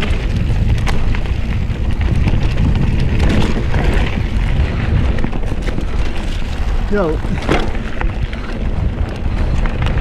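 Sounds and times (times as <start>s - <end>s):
bike clicks and rattles: 0.0s - 10.0s
wind rushing over microphone: 0.0s - 10.0s.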